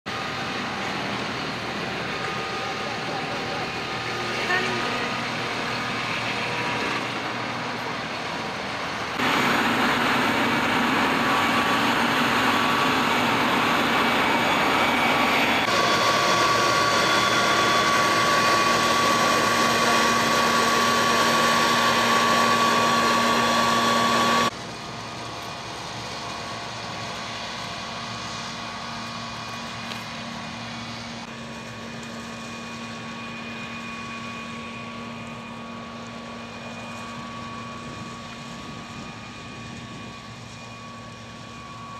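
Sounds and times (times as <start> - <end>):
harvester engine and machinery: 0.1 - 41.9.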